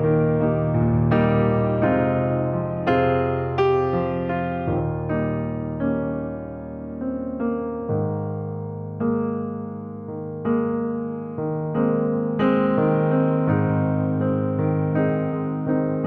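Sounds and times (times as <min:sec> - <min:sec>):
slow piano notes and chords: 0:00.0 - 0:16.0.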